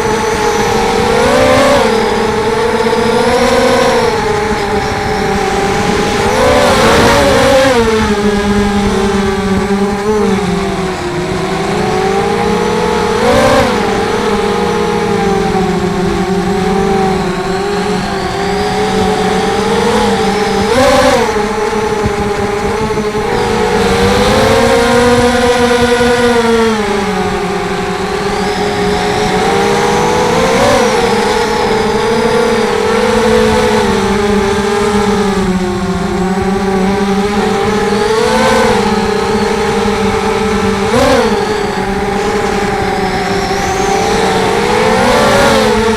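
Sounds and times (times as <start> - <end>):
quadcopter motors buzzing whine: 0.0 - 45.9.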